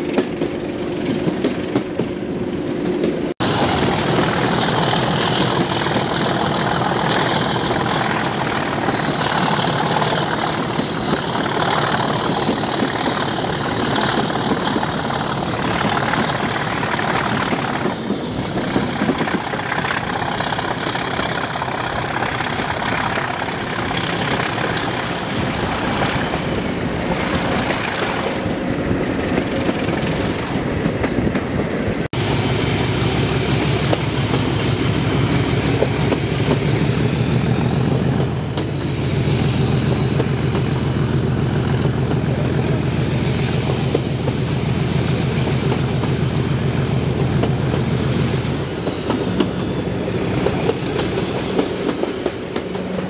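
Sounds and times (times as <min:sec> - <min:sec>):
moving train rush: 0:00.0 - 0:53.0
diesel locomotive engine thrashing: 0:03.4 - 0:28.4, 0:32.2 - 0:53.0.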